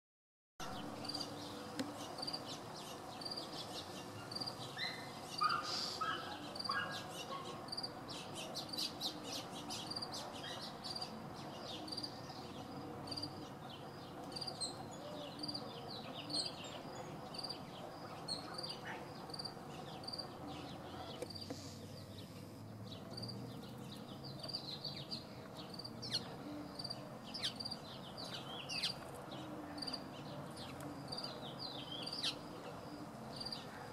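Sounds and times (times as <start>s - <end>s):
bird chirps and calls: 0.6s - 33.9s.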